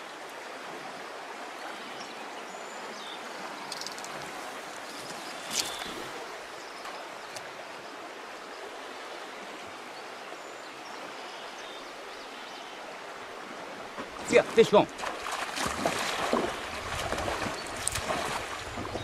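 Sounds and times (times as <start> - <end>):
river flowing: 0.0 - 19.0.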